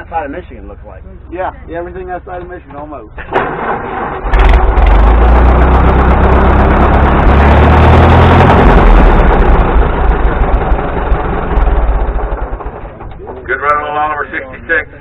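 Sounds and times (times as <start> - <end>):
tractor engine running: 2.0 - 15.0.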